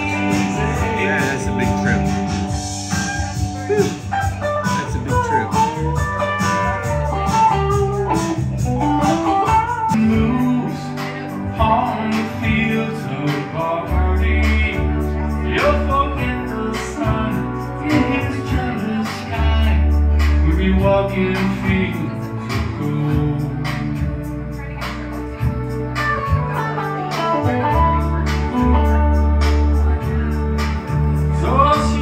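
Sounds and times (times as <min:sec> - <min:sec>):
guitar playing: 0:00.0 - 0:32.0.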